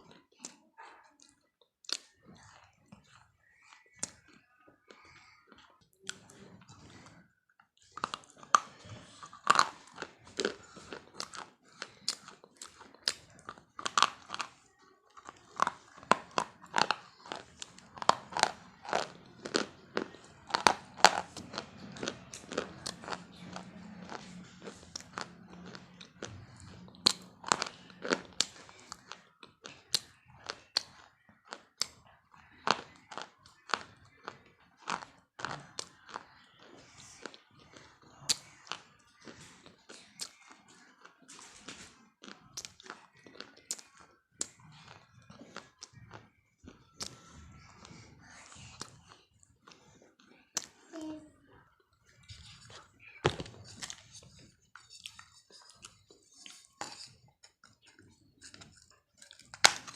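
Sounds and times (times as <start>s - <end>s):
crunchy food being chewed: 0.0s - 51.2s, 52.0s - 59.9s.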